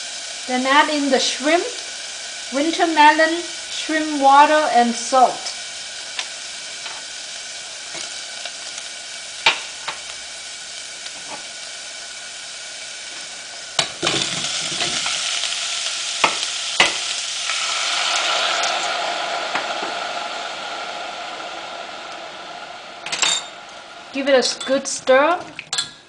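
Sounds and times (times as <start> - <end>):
onion sizzling in oil: 0.0 - 25.8.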